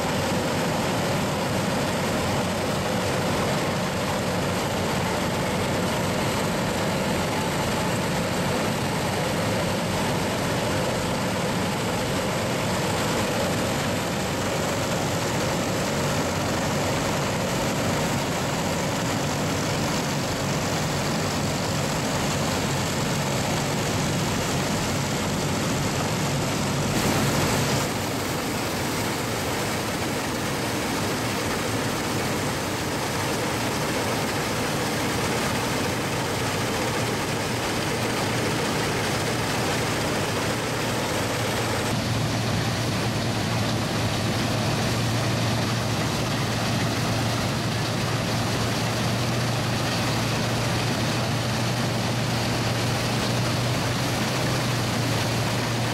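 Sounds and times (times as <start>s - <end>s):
engine hum: 0.0s - 55.9s
threshing machinery noise: 0.0s - 55.9s.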